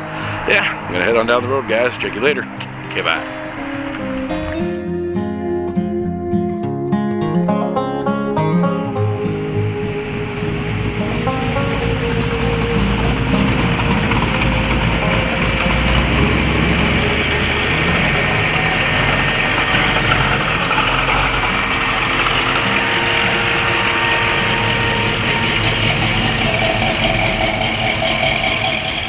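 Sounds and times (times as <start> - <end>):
vehicle engine running: 0.0 - 4.8, 8.7 - 29.0.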